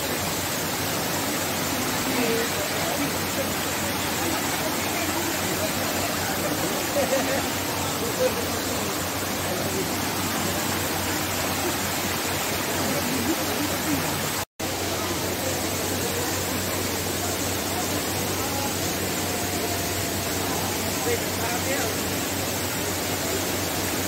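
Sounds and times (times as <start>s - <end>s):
faint voices: 0.0s - 24.0s
flowing water rushing: 0.0s - 24.0s.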